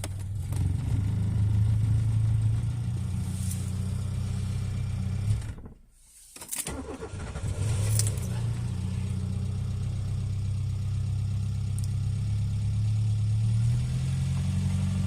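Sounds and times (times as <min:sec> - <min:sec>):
four-cylinder engine running: 0:00.0 - 0:05.8, 0:06.7 - 0:15.0.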